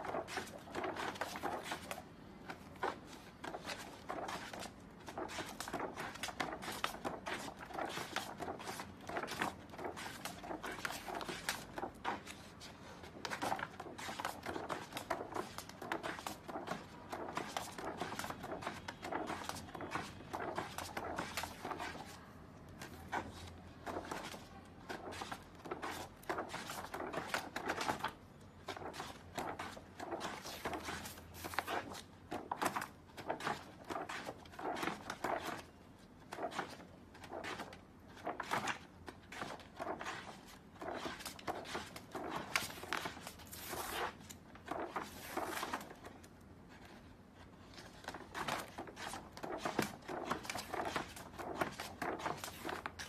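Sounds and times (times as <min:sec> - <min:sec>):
paper sheets rustling and flapping: 0:00.0 - 0:53.0.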